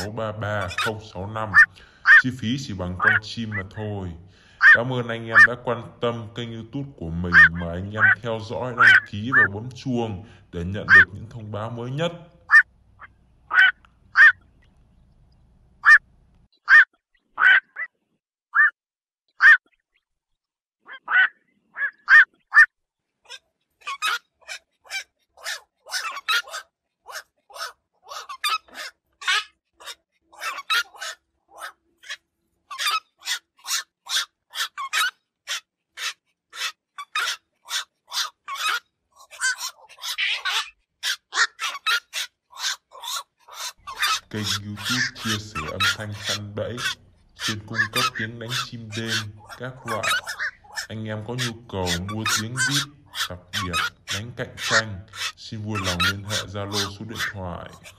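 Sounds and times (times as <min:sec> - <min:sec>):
herons calling: 0:00.0 - 0:18.0, 0:18.6 - 0:18.8, 0:19.4 - 0:20.0, 0:20.8 - 0:57.9.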